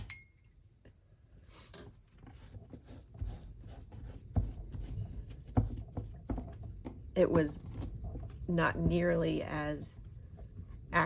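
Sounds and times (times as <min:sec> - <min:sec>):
rubbing and handling of supplies: 0:01.1 - 0:11.0.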